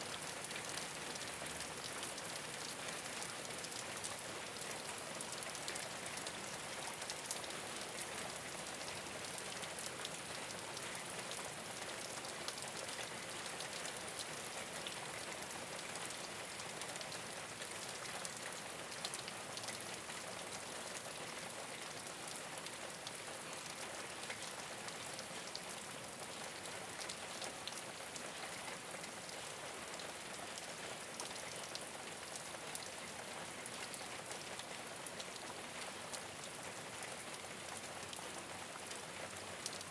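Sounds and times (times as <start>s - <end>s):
rain on a rooftop: 0.0s - 39.9s.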